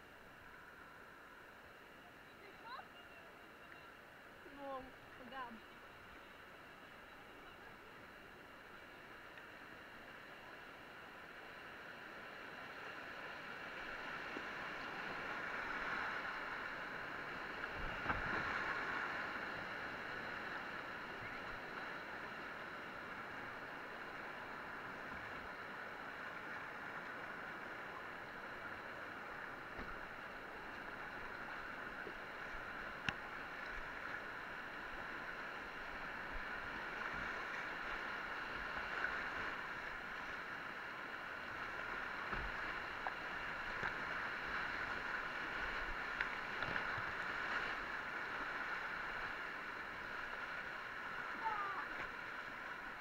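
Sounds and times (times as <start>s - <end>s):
rushing whitewater: 0.0s - 53.0s.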